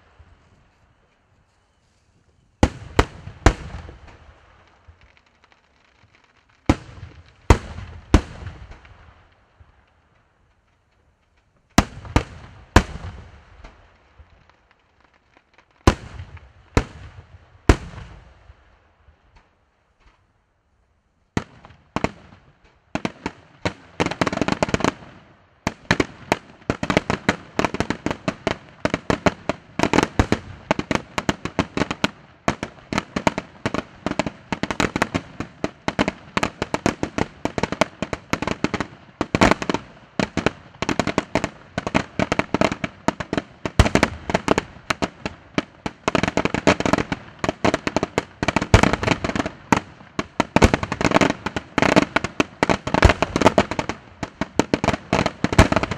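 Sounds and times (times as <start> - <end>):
fireworks bursting and crackling: 0.0 - 20.3, 21.2 - 55.9.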